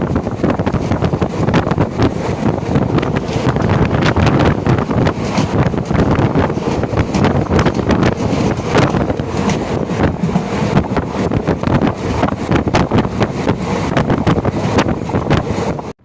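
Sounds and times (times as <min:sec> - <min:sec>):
wind buffeting microphone: 0:00.0 - 0:15.9
train rumbling on track: 0:00.0 - 0:16.0
wheel clicks and rattles: 0:00.2 - 0:15.7.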